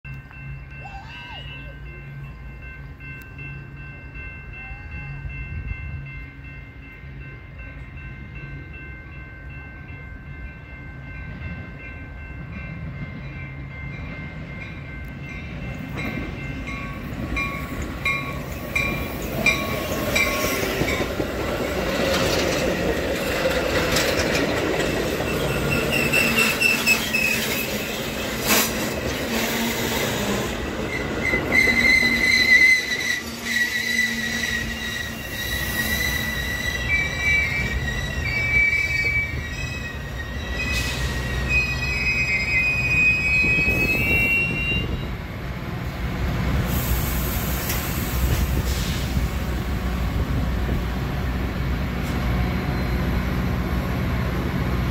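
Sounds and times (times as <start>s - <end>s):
crossing warning bells ringing: 0.0s - 54.9s
train rumble and wheel noise: 0.1s - 54.9s.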